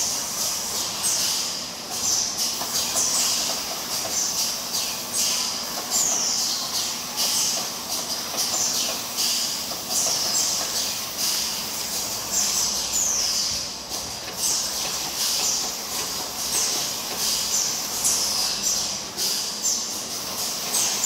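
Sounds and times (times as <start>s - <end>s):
compressed air hisses: 0.0s - 21.0s
low machine hum: 0.0s - 21.0s.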